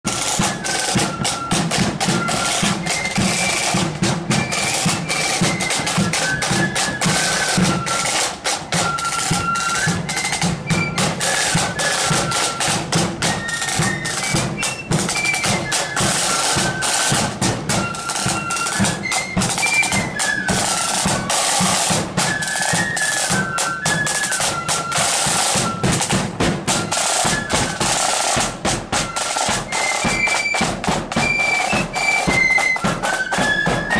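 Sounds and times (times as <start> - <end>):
flutes playing melody: 0.1 - 33.9
snare drums rattling: 0.1 - 33.9.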